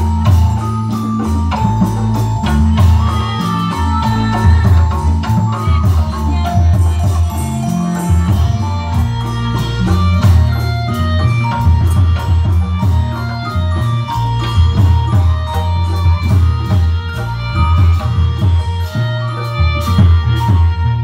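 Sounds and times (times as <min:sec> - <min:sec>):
dance accompaniment music: 0:00.0 - 0:21.0
deep bass line: 0:00.0 - 0:21.0
percussive beat: 0:00.0 - 0:21.0.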